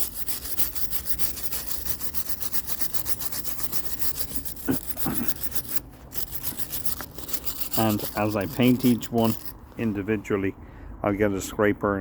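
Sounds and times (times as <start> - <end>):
wire brush scrubbing iron: 0.0 - 10.0.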